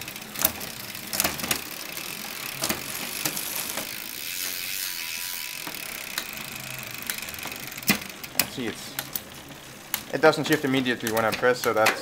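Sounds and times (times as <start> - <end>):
bicycle chain rattling: 0.0 - 12.0
derailleur shifting clicks: 0.0 - 12.0.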